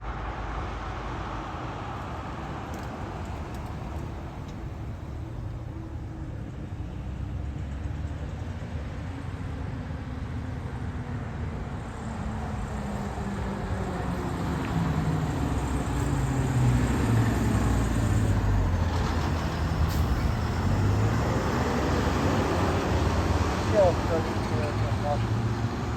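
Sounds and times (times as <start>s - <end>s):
fire engine approaching: 0.0s - 25.9s
road traffic noise: 0.0s - 25.9s.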